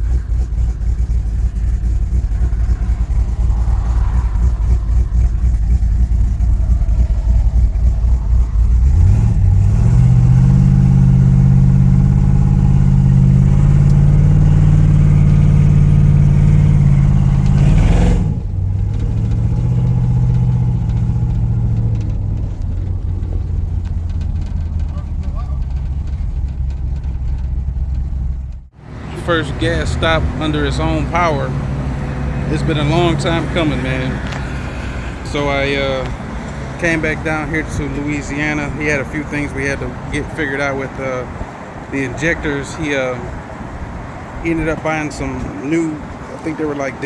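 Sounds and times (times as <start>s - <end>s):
car engine rumbling and revving: 0.0s - 47.0s.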